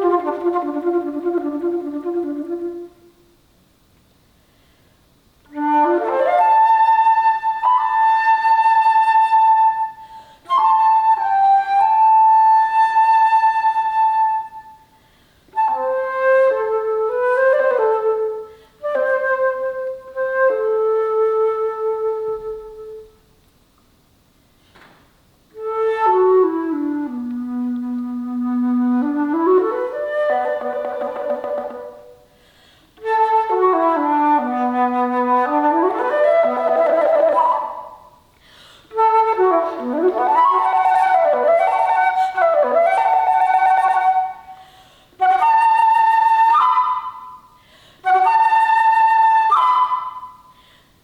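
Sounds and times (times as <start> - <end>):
alto flute playing: 0.0 - 3.4, 5.4 - 23.3, 25.5 - 32.4, 33.0 - 38.3, 38.9 - 50.8.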